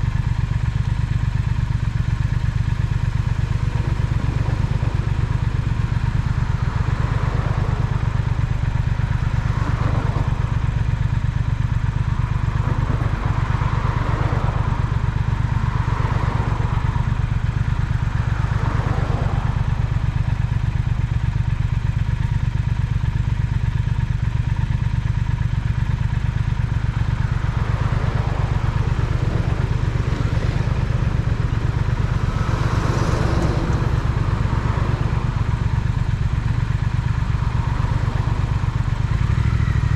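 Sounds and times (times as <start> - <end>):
motorcycle engine pulsing exhaust: 0.0 - 39.9.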